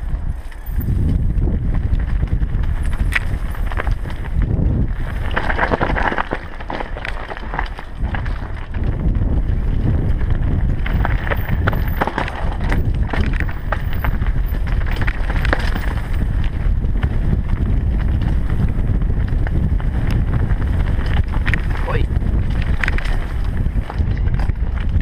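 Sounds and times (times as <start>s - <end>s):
bike clicks and rattles: 0.0s - 25.0s
wind rumble on microphone: 0.0s - 25.0s.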